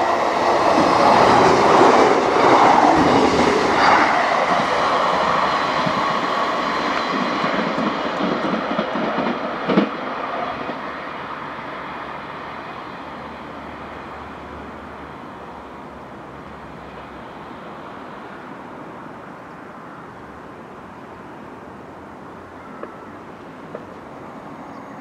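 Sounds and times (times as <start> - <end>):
diesel train engine and wheels: 0.0 - 25.0.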